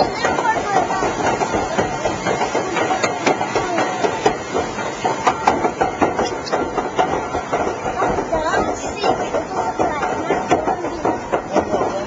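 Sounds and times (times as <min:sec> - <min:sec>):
conveyor mechanical running noise: 0:00.0 - 0:12.0.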